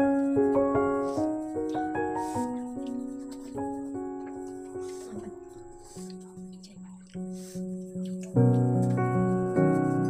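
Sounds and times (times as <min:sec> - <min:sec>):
piano-like keyboard music: 0:00.0 - 0:10.0.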